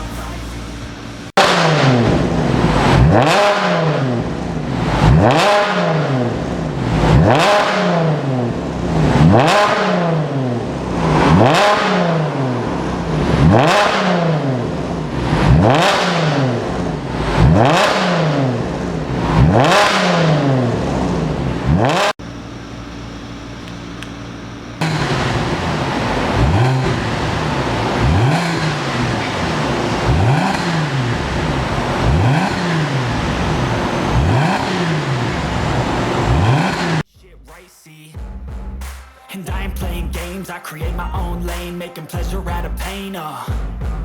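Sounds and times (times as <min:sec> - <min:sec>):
car engine revving: 0:00.0 - 0:37.1.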